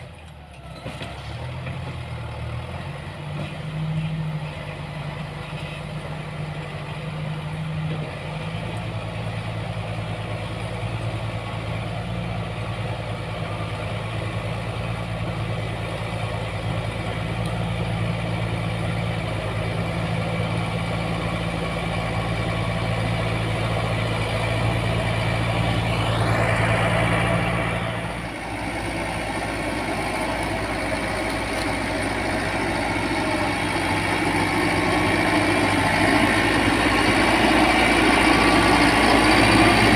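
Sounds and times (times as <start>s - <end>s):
heavy diesel engine at low revs: 0.0s - 39.9s.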